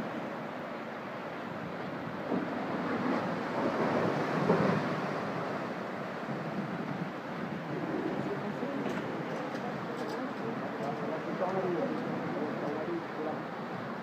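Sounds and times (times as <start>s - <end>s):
waves rushing and breaking: 0.0s - 14.0s.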